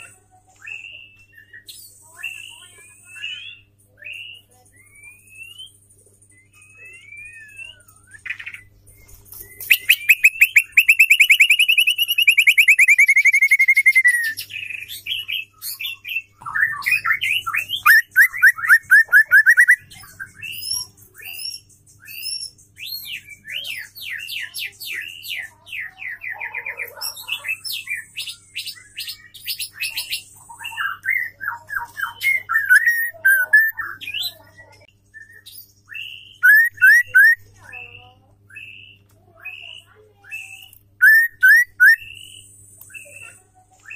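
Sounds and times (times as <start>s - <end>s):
bird singing trills and whistles: 0.0s - 43.9s.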